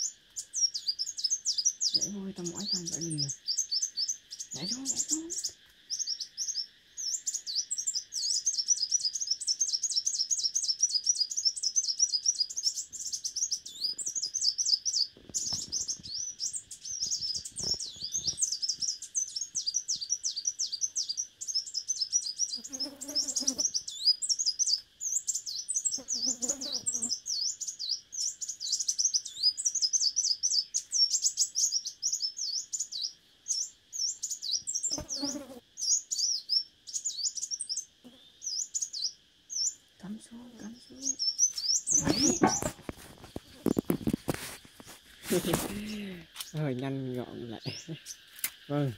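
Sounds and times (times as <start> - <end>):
bird warbling song: 0.0 - 48.9
high insect drone: 0.0 - 48.9.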